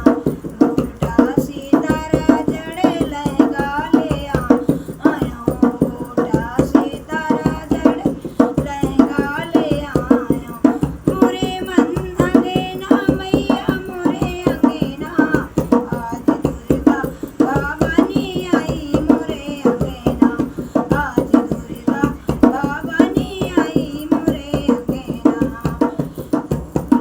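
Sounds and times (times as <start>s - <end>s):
hand drum beat: 0.0s - 27.0s
woman singing devotional song: 0.0s - 27.0s.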